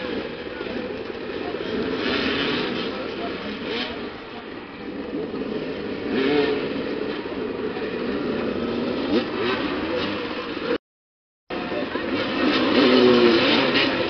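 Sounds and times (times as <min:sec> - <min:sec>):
motorcycle engines revving: 0:00.0 - 0:10.8, 0:11.5 - 0:14.0.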